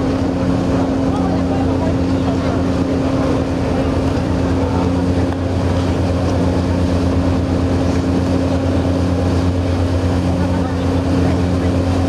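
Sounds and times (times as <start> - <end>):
boat diesel engines droning: 0.0 - 12.0
wind and water hiss: 0.0 - 12.0.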